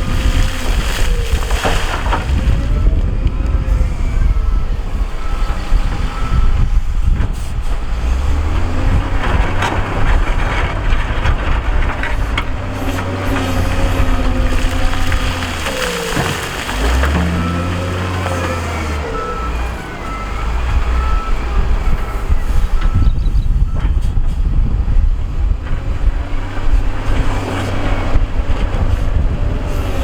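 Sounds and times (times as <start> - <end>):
diesel earthmoving machinery working: 0.0 - 30.0.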